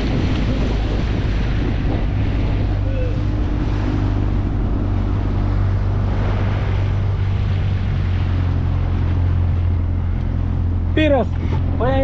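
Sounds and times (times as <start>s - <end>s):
outboard motor running: 0.0s - 12.0s
wind buffeting microphone: 0.0s - 12.0s.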